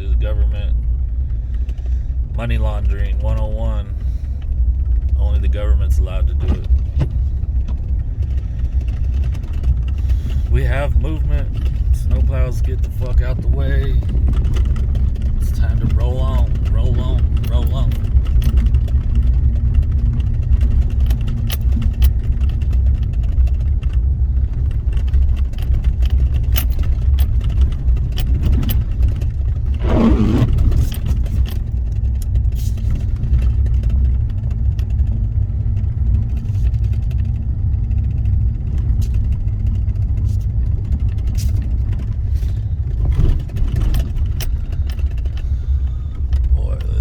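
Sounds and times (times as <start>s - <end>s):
car engine and road noise: 0.0s - 47.0s.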